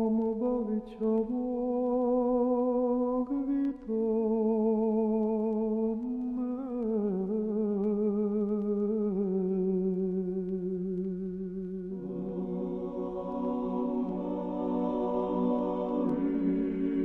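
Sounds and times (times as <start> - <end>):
slow vocal music with vibrato: 0.0 - 17.0
voices singing a chord: 0.0 - 17.0.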